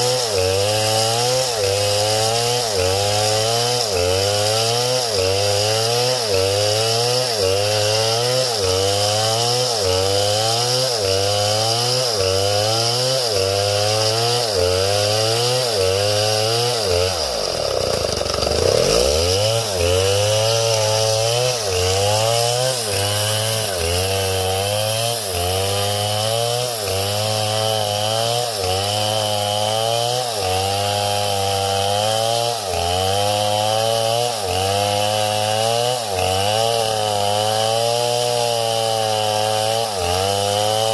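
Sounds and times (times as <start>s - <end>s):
chainsaw engine running under load: 0.0s - 40.9s.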